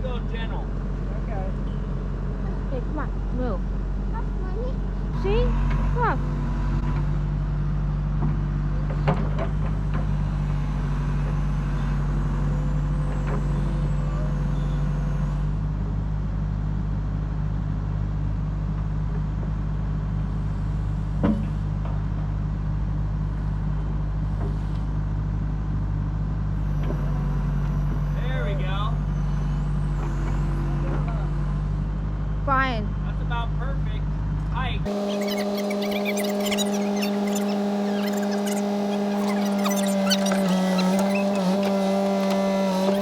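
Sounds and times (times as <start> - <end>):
loader engine running: 0.0 - 43.0.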